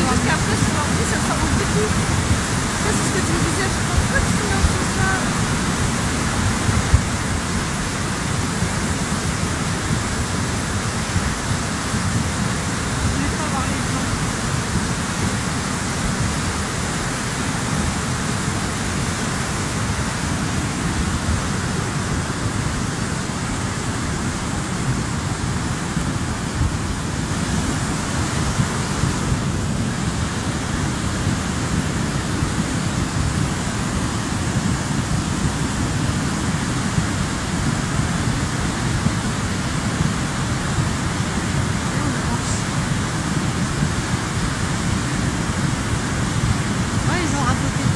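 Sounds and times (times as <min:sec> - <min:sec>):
river water rushing over boulders: 0:00.0 - 0:47.9.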